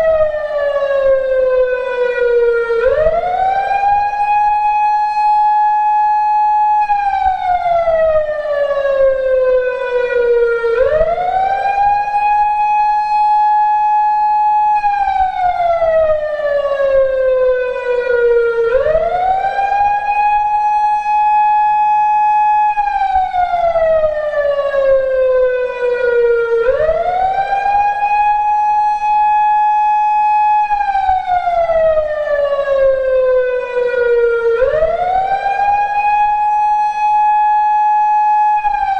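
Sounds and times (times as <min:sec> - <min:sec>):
electronic siren wailing: 0:00.0 - 0:38.9.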